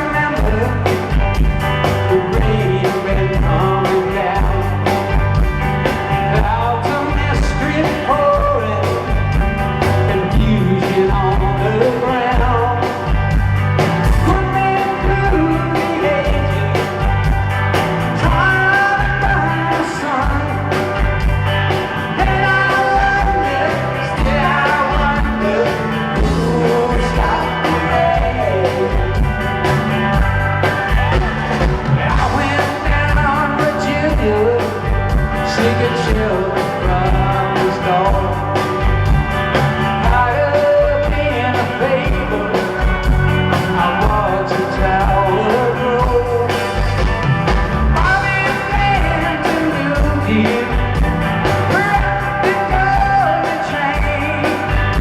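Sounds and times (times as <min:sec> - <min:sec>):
person singing lead vocal: 0:00.0 - 0:05.2, 0:06.2 - 0:17.3, 0:18.0 - 0:29.8, 0:31.9 - 0:38.8, 0:39.8 - 0:47.0, 0:47.9 - 0:55.0
electric guitars: 0:00.0 - 0:55.0
live rock band playing: 0:00.0 - 0:55.0.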